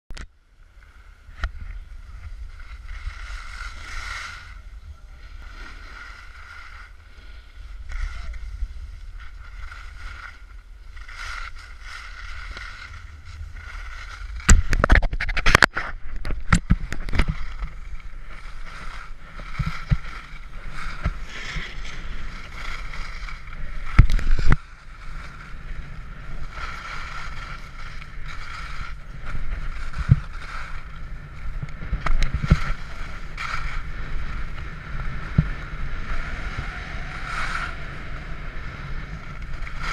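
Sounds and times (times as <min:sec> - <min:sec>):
skis scraping on snow: 0:00.7 - 0:39.9
wind rushing over microphone: 0:01.1 - 0:39.9.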